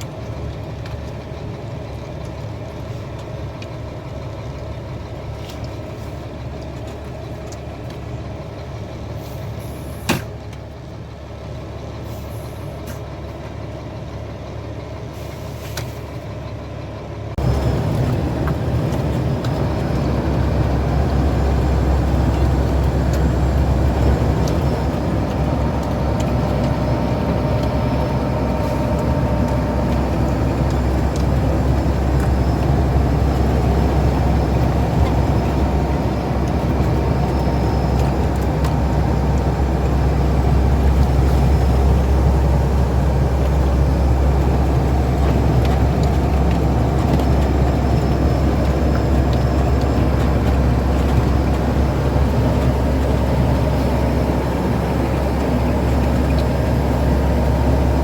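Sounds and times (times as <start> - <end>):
heavy truck engine rumbling: 0.0 - 58.0.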